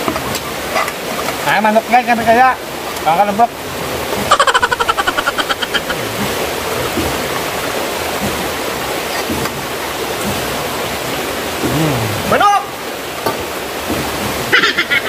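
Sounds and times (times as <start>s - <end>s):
water rushing over dam: 0.0s - 15.0s.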